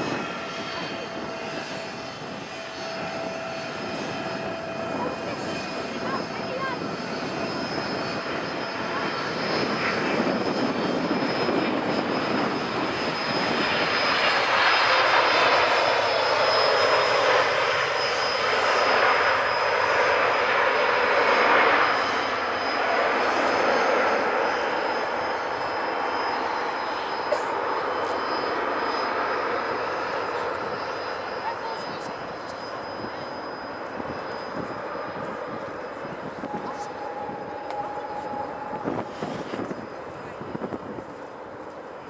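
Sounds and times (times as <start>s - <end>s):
high engine whine: 0.0s - 42.0s
jet engines roaring on landing: 0.0s - 42.0s.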